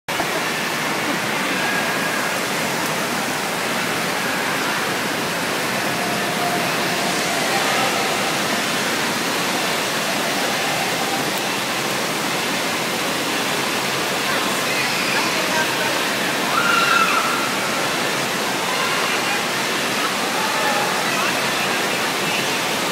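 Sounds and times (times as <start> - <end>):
faint voices: 0.1 - 22.9
falling and splashing water: 0.1 - 22.9.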